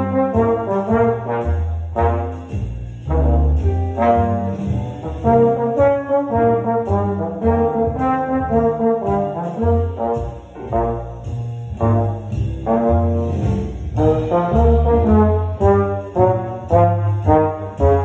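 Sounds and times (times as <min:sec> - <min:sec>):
trombone melody: 0:00.0 - 0:18.0.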